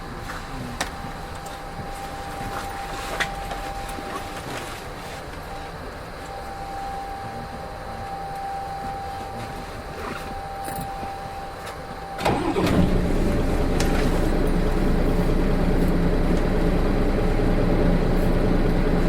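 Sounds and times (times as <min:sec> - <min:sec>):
bus diesel engine running: 0:00.0 - 0:19.0
faint engine whine: 0:00.0 - 0:19.0.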